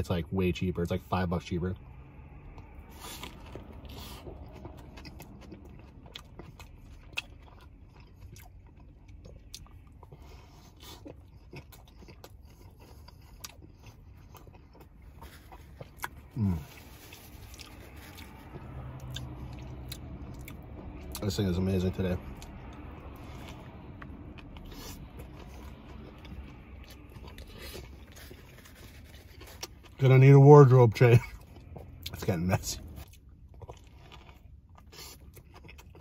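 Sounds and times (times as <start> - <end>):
biting and chewing sandwich: 2.4 - 36.0.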